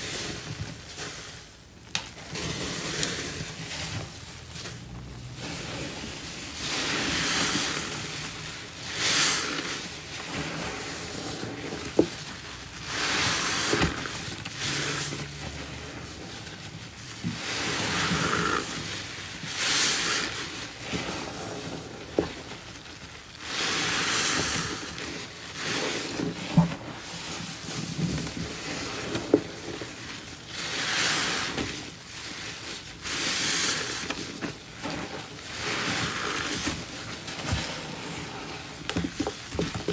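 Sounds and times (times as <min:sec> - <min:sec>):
wet squelch of sponges squeezed: 0:00.0 - 0:39.9.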